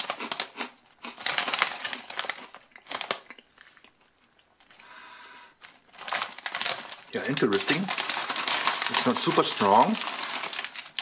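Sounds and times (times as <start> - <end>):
crisp bag crinkling: 0.0 - 4.0, 5.6 - 11.0.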